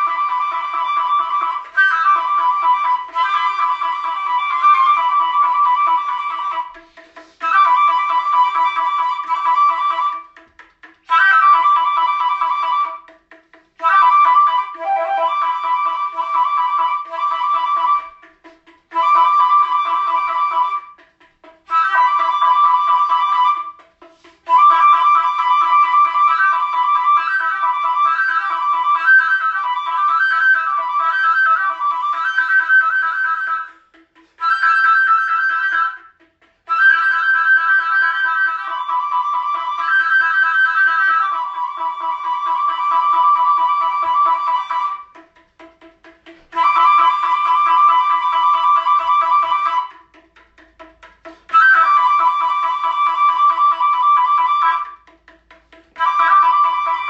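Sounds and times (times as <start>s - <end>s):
flute-like melody: 0.0s - 57.0s.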